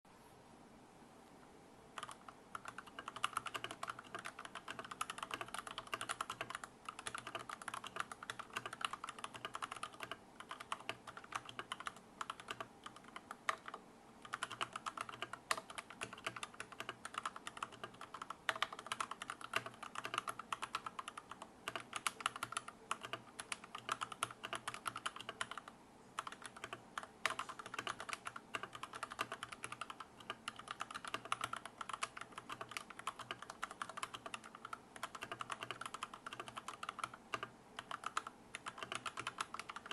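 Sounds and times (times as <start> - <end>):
mechanical keyboard keystroke clacks: 2.0 - 25.6, 26.2 - 39.9.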